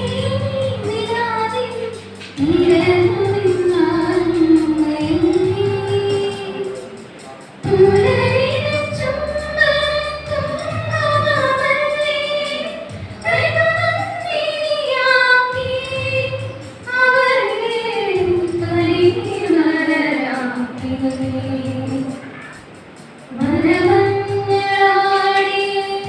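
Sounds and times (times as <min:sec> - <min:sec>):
high voices singing: 0:00.0 - 0:26.0
low pulsing accompaniment: 0:00.0 - 0:26.0.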